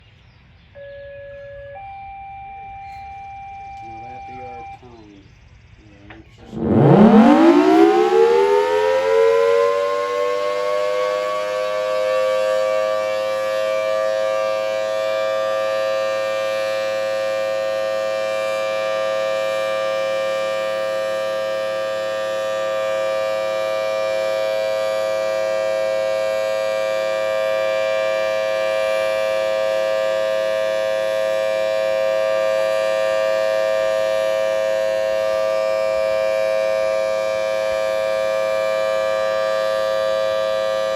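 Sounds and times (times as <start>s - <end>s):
warning siren wailing: 0.7s - 5.0s, 6.3s - 40.9s.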